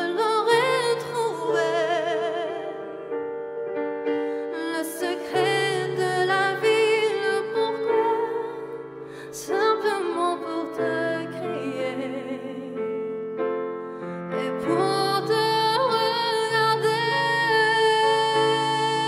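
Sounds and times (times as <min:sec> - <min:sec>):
woman singing with vibrato: 0:00.0 - 0:03.0, 0:04.4 - 0:12.9, 0:14.4 - 0:19.0
electronic keyboard chords: 0:00.0 - 0:19.0.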